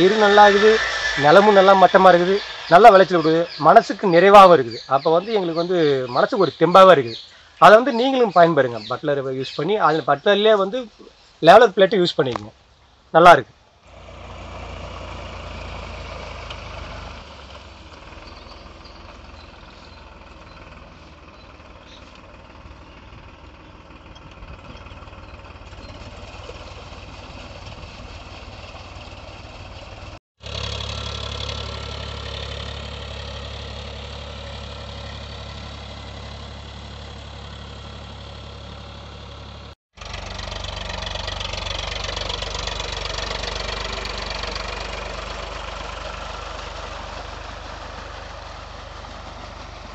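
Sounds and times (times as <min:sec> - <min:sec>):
tractor diesel engine running: 0:00.0 - 0:11.3, 0:13.8 - 0:49.9.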